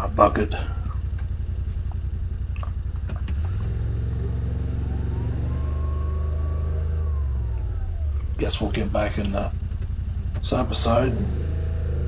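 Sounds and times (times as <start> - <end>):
rising whine: 0.0 - 12.0
vehicle engine rumbling: 0.0 - 12.0.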